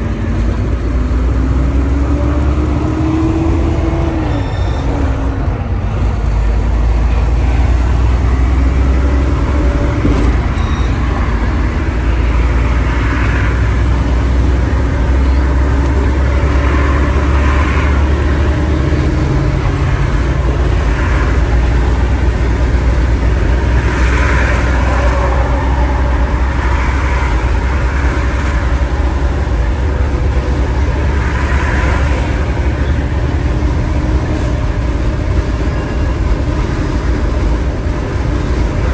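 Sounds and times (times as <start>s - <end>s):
road noise hiss: 0.0s - 38.9s
truck engine drone: 0.0s - 38.9s.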